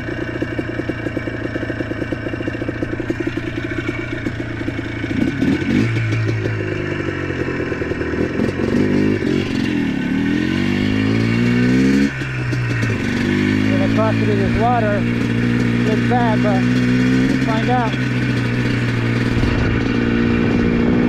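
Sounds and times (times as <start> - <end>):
atv engine chugging and revving: 0.0 - 21.0.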